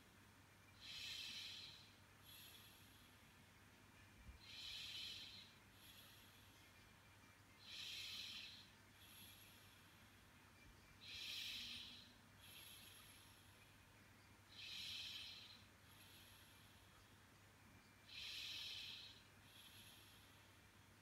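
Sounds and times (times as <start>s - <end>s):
slow hissy breathing: 0.0s - 21.0s.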